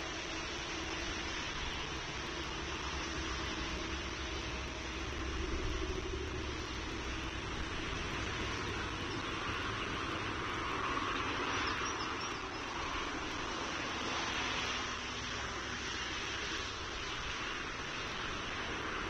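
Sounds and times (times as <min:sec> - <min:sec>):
outdoor background rumble and hiss: 0:00.0 - 0:19.0.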